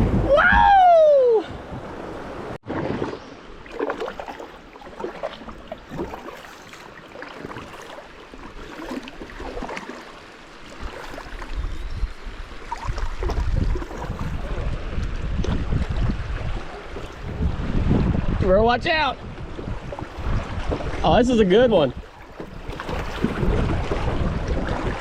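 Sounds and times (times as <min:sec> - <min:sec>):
water rushing around a kayak: 0:00.0 - 0:25.0.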